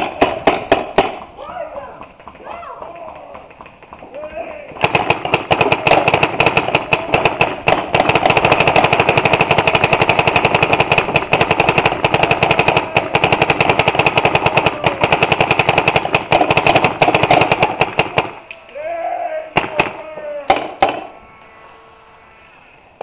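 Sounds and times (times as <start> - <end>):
paintball markers firing rapidly: 0.0 - 18.5, 19.6 - 21.1.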